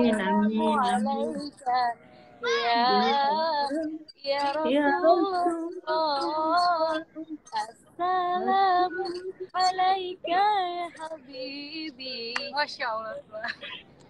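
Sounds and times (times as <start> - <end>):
woman singing devotional song: 0.0 - 13.7.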